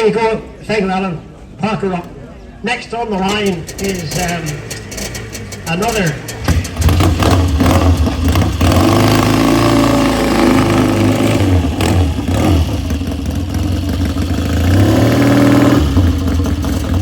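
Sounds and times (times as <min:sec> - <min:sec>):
motorcycle engine revving: 0:03.2 - 0:17.0.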